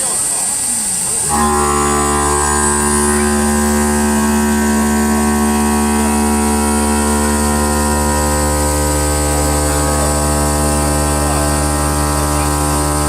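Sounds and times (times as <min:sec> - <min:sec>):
electric motor hum and whine: 0:01.0 - 0:13.0.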